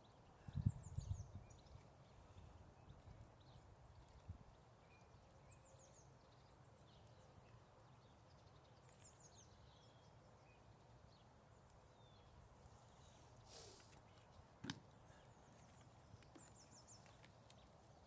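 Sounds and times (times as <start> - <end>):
low steady outdoor hum: 0.0 - 18.0.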